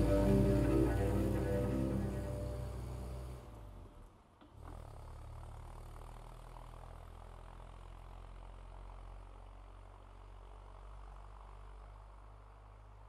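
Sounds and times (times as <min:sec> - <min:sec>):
faint engine drone: 0:00.0 - 0:13.0.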